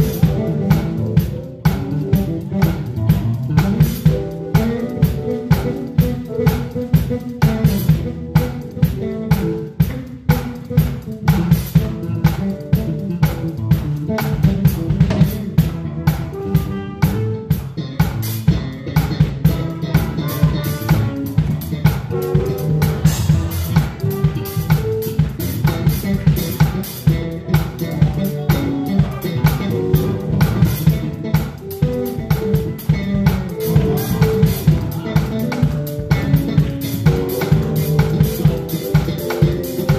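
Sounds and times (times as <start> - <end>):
drum kit groove: 0.0 - 39.9
live band playing: 0.0 - 39.9.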